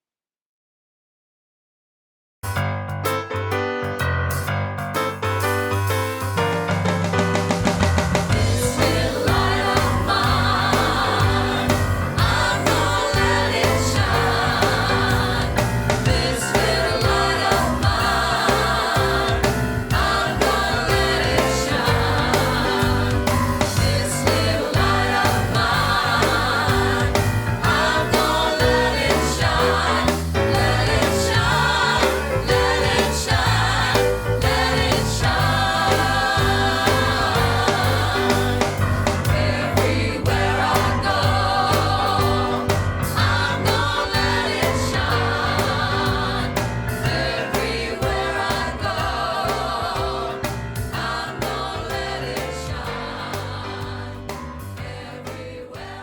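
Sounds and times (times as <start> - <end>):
upbeat music with group singing: 8.2 - 56.0.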